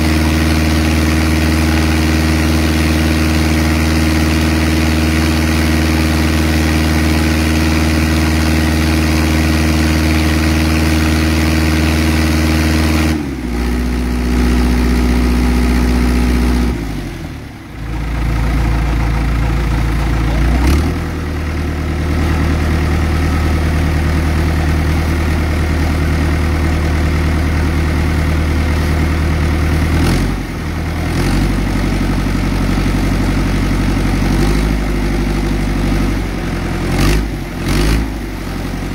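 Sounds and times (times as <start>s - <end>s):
engine-driven water pump running: 0.0s - 38.9s.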